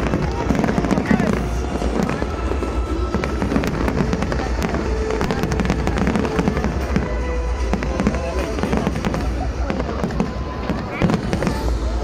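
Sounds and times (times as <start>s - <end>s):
fireworks crackling and banging: 0.0s - 12.0s
music playing: 0.0s - 12.0s.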